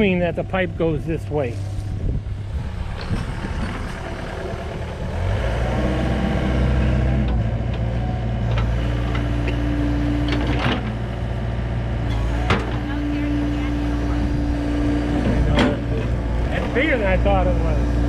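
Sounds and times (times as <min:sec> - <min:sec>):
excavator diesel engine revving: 0:00.0 - 0:18.0.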